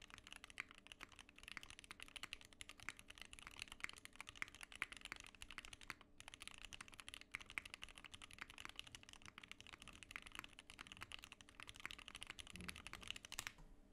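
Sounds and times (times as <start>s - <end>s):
fast mechanical keyboard typing: 0.0s - 13.6s.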